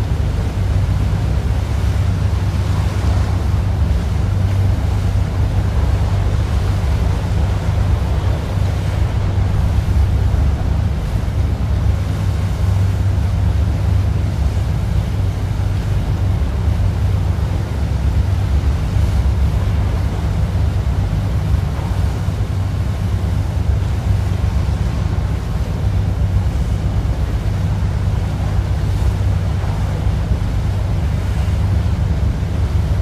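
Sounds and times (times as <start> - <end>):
boat engine humming: 0.0 - 33.0
water rushing past hull: 0.0 - 33.0
wind buffeting microphone: 0.0 - 33.0.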